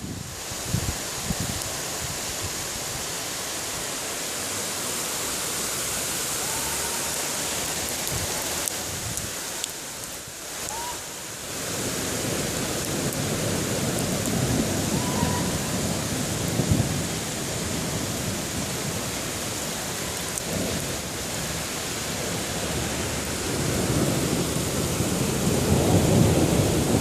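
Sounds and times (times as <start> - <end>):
torrential rain: 0.0 - 27.0.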